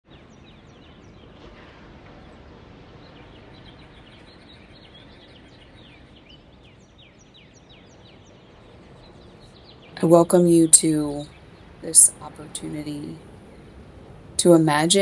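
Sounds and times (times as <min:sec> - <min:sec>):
quiet birdsong chirps: 0:00.0 - 0:15.0
steady background noise: 0:00.1 - 0:15.0.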